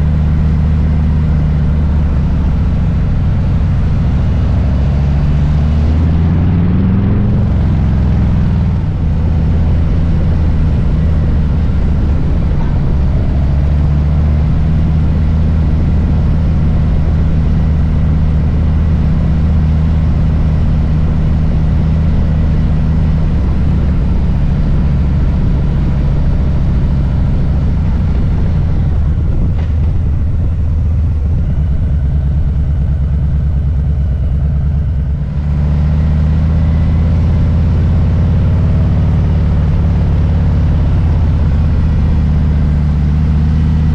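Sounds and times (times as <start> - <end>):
motorcycle engine rumbling: 0.0 - 43.9.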